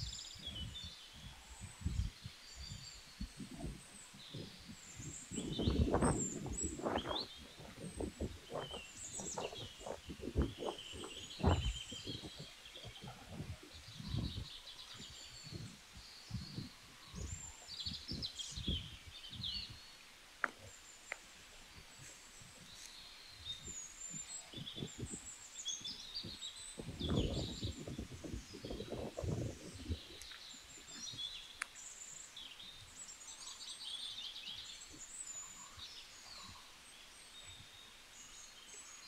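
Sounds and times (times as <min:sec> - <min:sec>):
songbirds chirping: 0:00.0 - 0:39.0.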